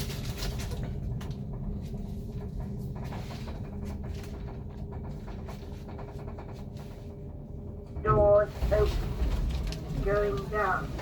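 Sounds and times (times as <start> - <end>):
lift car hum: 0.0 - 11.0.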